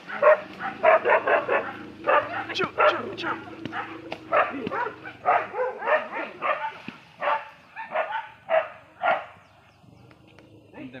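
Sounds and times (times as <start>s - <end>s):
dog barking: 0.0s - 9.4s.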